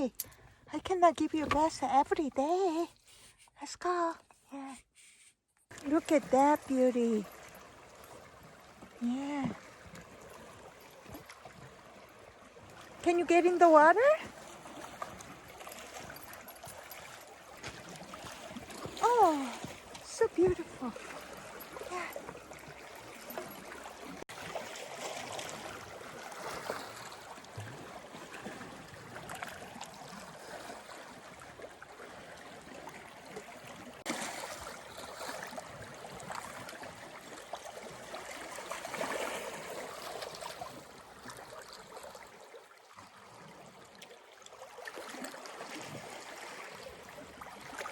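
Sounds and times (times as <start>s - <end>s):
water lapping at the shore: 0.0s - 47.9s
small water splashes: 5.7s - 47.9s.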